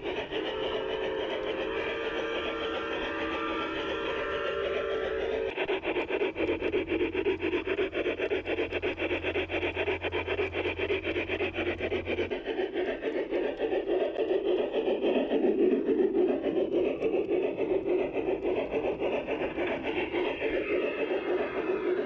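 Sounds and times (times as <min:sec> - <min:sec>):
model train wheels rumbling on rails: 0:00.0 - 0:22.0.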